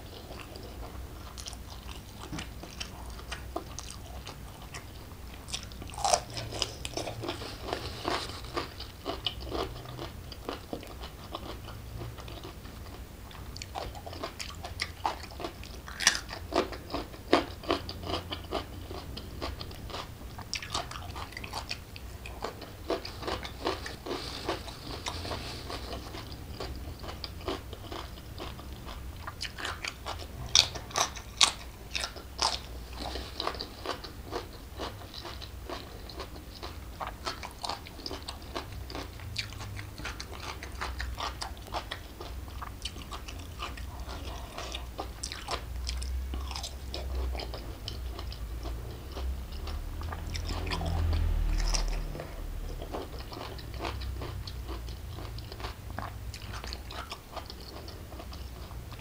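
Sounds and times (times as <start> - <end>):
chewing crunchy raw vegetables: 0.0 - 59.0.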